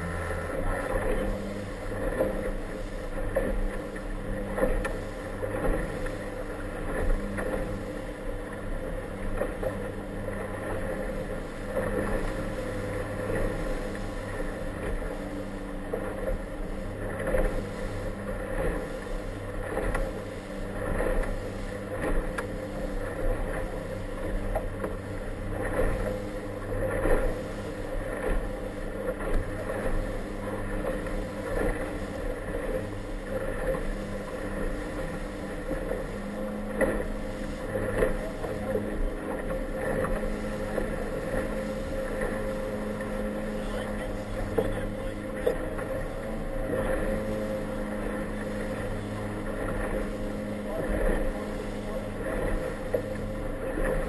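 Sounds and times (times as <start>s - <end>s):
boat motor running: 0.0s - 54.0s
hull thumping on waves: 0.0s - 54.0s.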